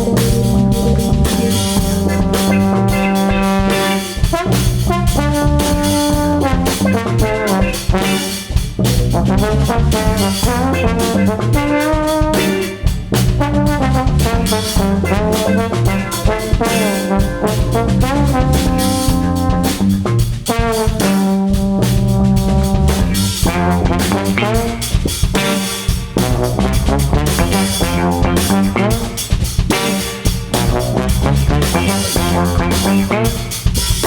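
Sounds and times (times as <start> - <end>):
drum kit beat: 0.0 - 34.0
trombone sliding melody: 0.0 - 34.0.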